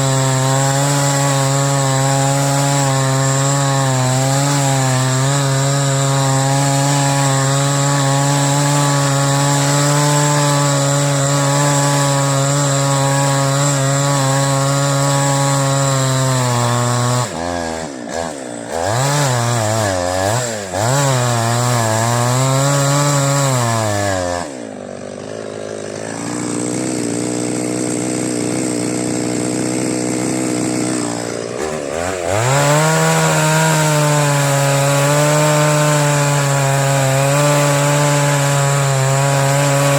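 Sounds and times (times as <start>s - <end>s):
two-stroke chainsaw cutting wood: 0.0s - 39.9s.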